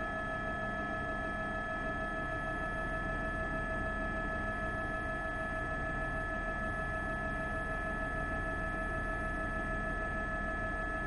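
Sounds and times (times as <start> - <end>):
helicopter cabin whine: 0.0 - 11.0.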